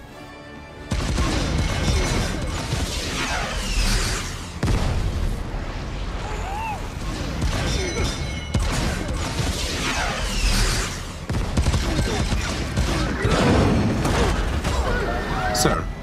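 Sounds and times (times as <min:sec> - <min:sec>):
film score music: 0:00.0 - 0:16.0
heavy booms and blasts: 0:00.9 - 0:15.0.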